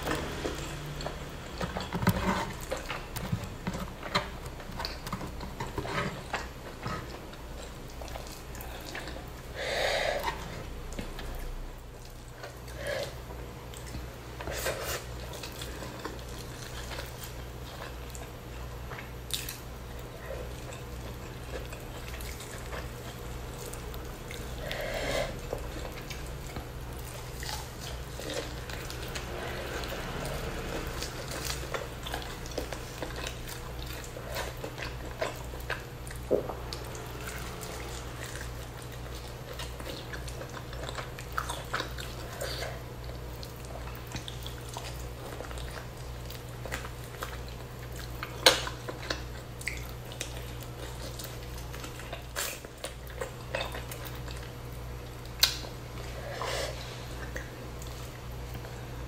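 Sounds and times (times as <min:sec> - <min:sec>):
chewing and biting: 0:00.0 - 0:59.0
steady low hum: 0:00.0 - 0:59.0.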